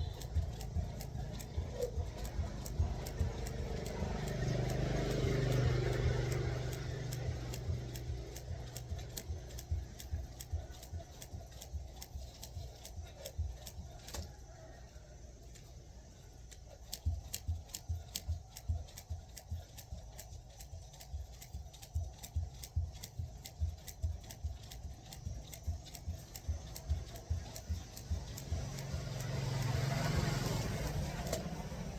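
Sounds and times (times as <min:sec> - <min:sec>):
jump rope ticking on ground: 0:00.0 - 0:14.4, 0:16.5 - 0:31.9
low vehicle hum: 0:00.0 - 0:31.9.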